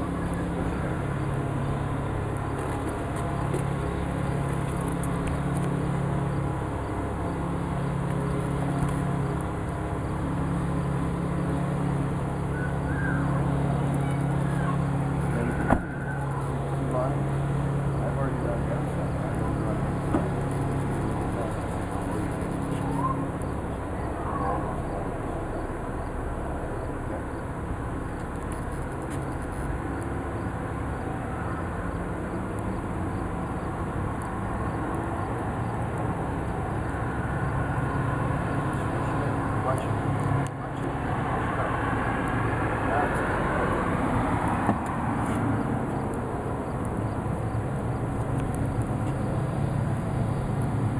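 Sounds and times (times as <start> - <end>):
low engine rumble: 0.0 - 50.9
low mechanical hum: 0.0 - 50.9.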